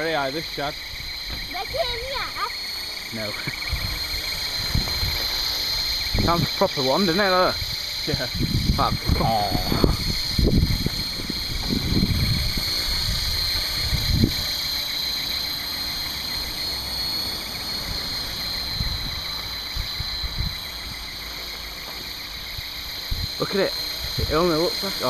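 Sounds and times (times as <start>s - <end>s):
rc helicopter rotor whine: 0.0s - 25.0s.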